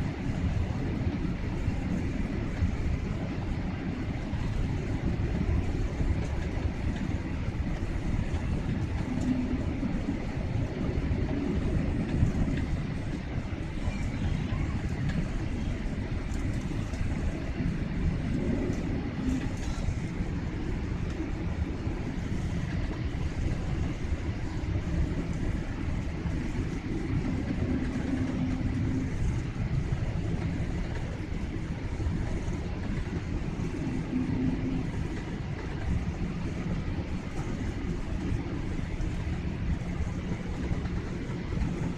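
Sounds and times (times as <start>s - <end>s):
jet engine rumble in cabin: 0.0s - 41.9s.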